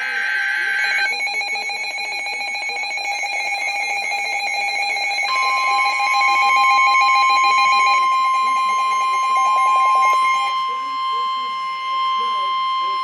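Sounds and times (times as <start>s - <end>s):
rapidly pulsing electronic alert: 0.0s - 13.0s
steady alarm tone: 0.0s - 13.0s.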